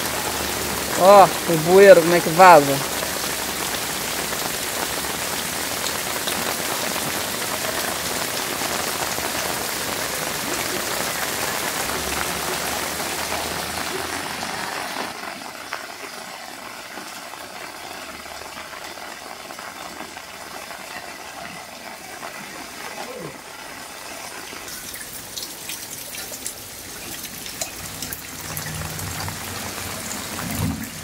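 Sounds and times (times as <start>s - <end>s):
heavy rain on street: 0.0s - 31.0s
runoff water flowing: 0.0s - 31.0s.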